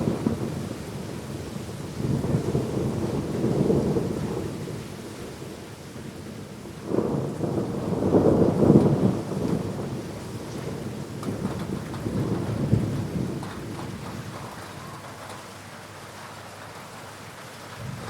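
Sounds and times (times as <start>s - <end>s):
thunderclap rumbling: 0.0s - 5.6s, 6.2s - 18.0s
heavy rain: 0.0s - 18.0s.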